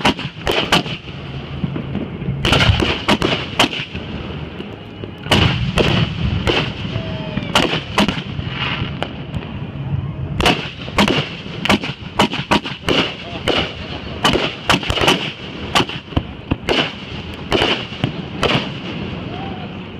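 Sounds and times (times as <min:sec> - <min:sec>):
fireworks bangs: 0:00.0 - 0:19.9.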